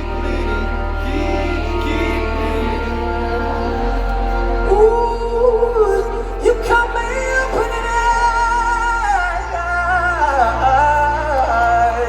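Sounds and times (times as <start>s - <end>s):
bass notes: 0.0s - 12.0s
singer holding long notes: 0.0s - 12.0s.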